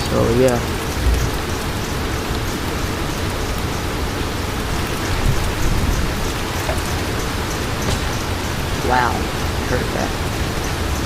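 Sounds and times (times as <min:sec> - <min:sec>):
heavy rain pouring: 0:00.0 - 0:11.0
low thunder rumble: 0:00.0 - 0:11.0
raindrops ticking: 0:00.0 - 0:11.0.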